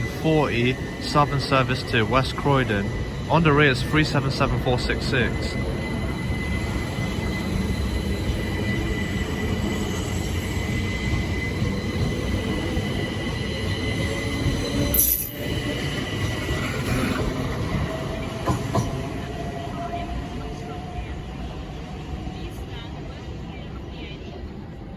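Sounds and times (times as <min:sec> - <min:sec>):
electric train rumble: 0:00.0 - 0:24.9.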